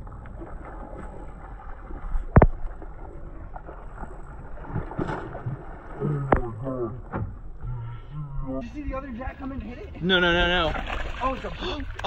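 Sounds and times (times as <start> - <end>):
water splashing around boat: 0.0 - 12.0.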